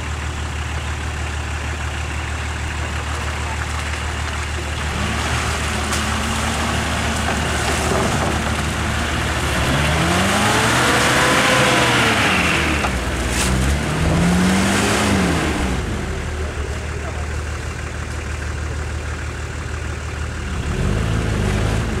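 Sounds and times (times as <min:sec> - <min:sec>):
off-road vehicle engine revving: 0:00.0 - 0:19.1, 0:19.7 - 0:22.0.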